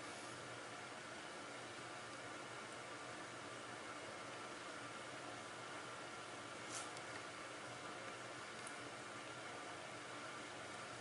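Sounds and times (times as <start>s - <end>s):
faint room tone hiss: 0.0s - 11.0s.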